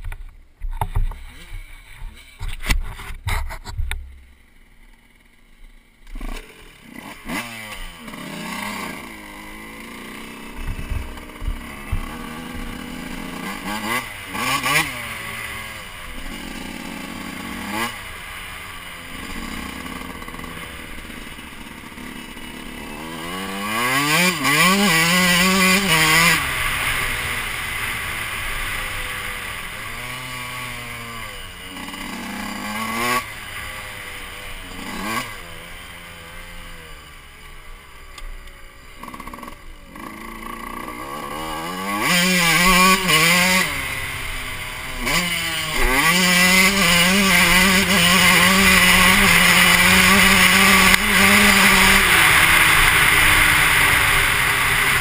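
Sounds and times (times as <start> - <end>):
dirt bike engine revving: 4.1 - 55.0.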